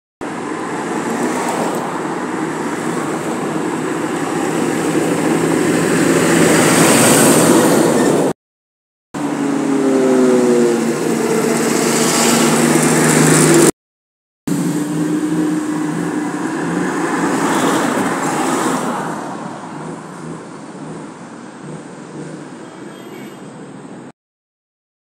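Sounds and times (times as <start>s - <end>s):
road traffic passing: 0.2s - 8.4s, 9.2s - 13.8s, 14.5s - 24.2s.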